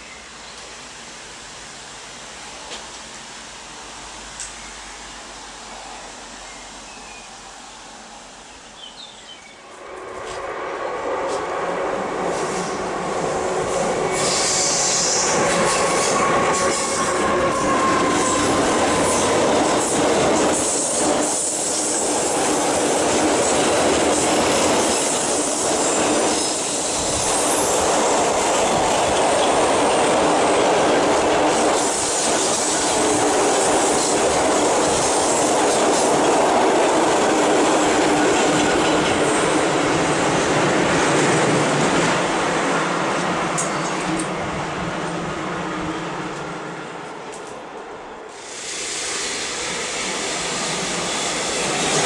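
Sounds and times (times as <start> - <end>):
freight train rolling past: 9.6 - 52.0.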